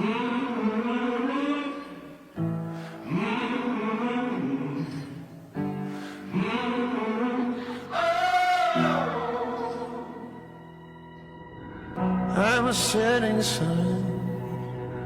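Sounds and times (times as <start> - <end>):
sung vocals holding long notes: 0.0 - 15.0.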